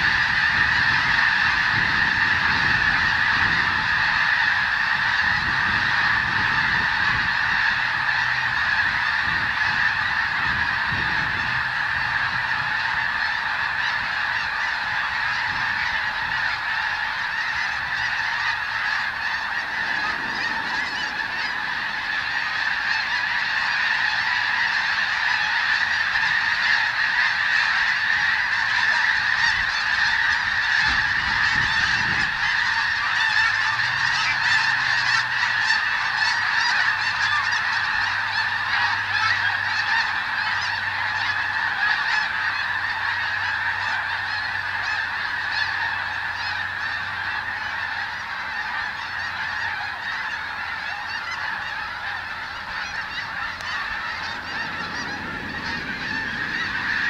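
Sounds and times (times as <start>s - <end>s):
flock of geese honking: 0.0s - 57.0s.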